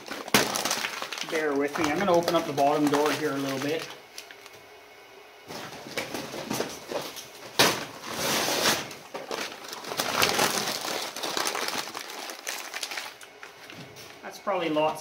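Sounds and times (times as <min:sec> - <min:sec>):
paper being crumpled: 0:00.0 - 0:04.6, 0:05.5 - 0:14.2.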